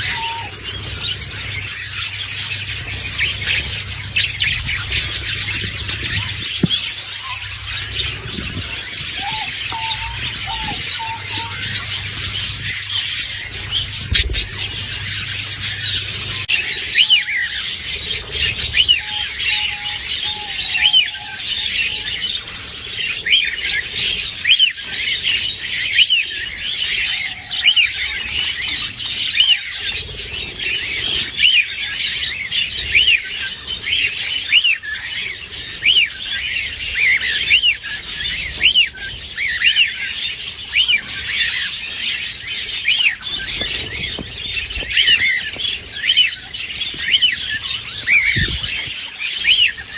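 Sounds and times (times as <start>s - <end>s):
budgerigars chirping and squawking: 0.0s - 49.9s.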